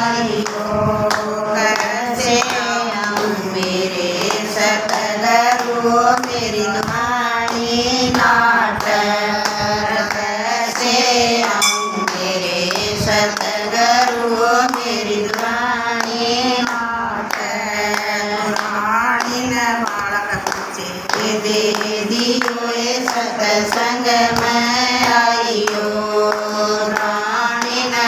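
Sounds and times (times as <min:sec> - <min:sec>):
women singing devotional song: 0:00.0 - 0:28.0
hand clapping in time: 0:00.3 - 0:28.0.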